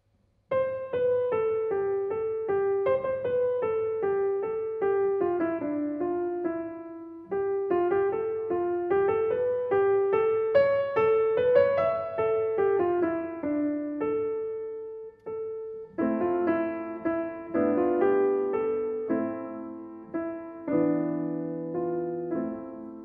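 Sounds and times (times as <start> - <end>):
grand piano melody: 0.5 - 23.0.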